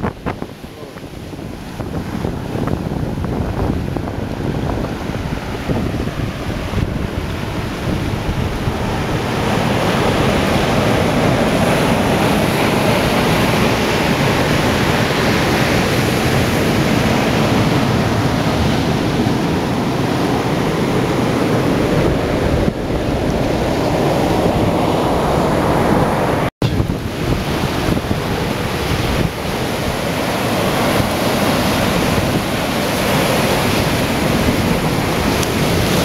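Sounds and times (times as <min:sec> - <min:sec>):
ocean surf breaking: 0:00.0 - 0:36.0
wind on microphone: 0:00.0 - 0:36.0.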